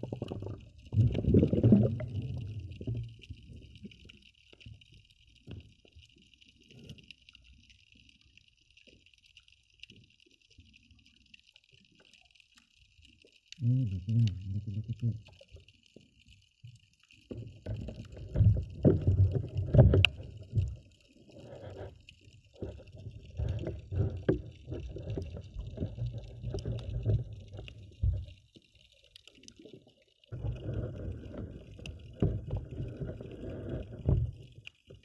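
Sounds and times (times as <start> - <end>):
water sloshing and rumbling: 0.0 - 7.7, 13.0 - 35.0.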